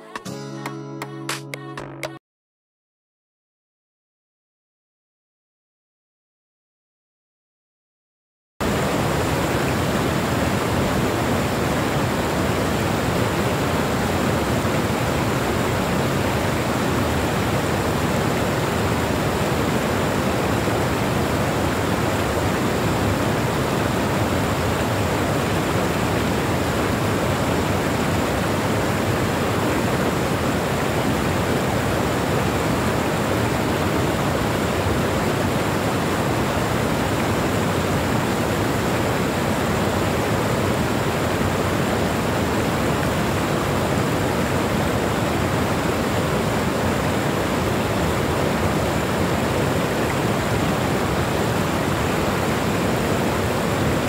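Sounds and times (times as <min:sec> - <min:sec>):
waterfall rushing over rocks: 0:08.6 - 0:54.0.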